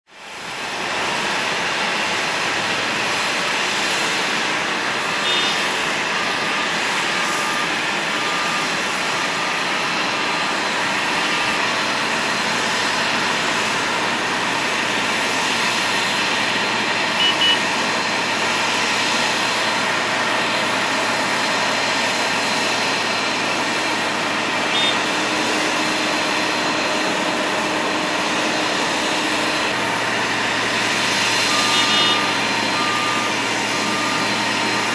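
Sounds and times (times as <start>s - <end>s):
jet engines running: 0.1s - 34.9s.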